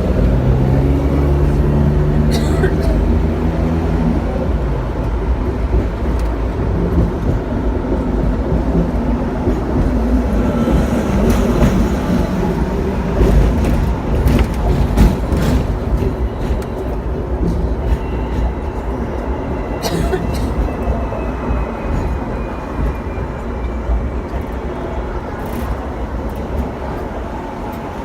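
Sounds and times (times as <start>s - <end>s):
tram running on rails: 0.0s - 28.0s.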